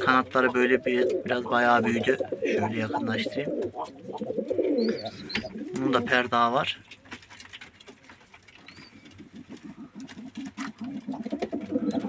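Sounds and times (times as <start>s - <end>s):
pigeons cooing: 0.0s - 6.6s, 8.4s - 12.0s.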